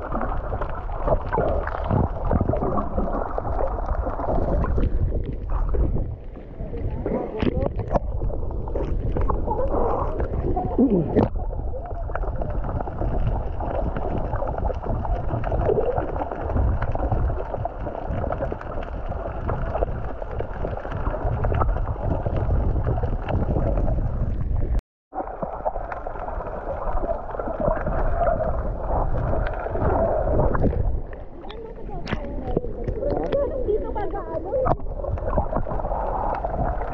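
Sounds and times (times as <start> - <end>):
underwater gurgling and sloshing: 0.0 - 36.9.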